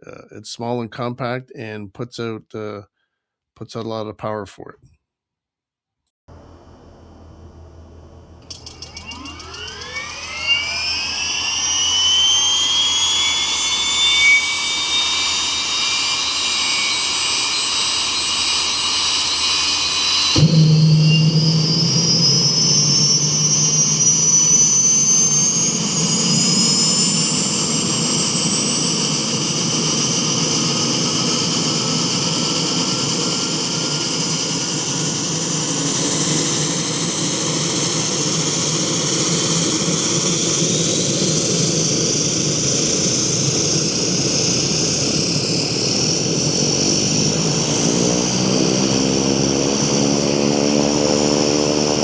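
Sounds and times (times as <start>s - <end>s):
turbine engine whine: 6.3s - 52.0s
pulsing propeller beat: 7.0s - 52.0s.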